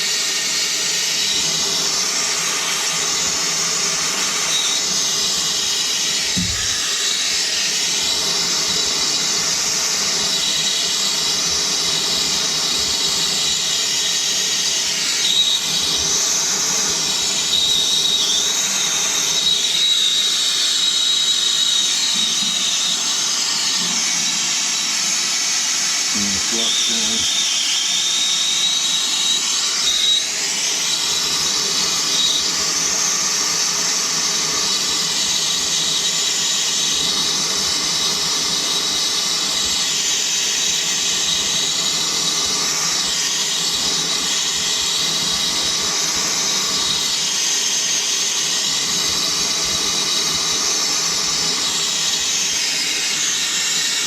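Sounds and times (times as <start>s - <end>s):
gas torch hissing: 0.0s - 54.0s.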